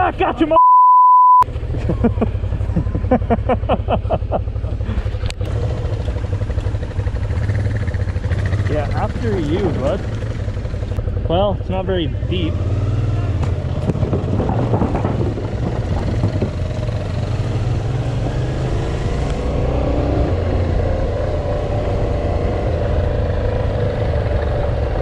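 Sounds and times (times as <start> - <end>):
motorcycle engine running: 1.5 - 25.0.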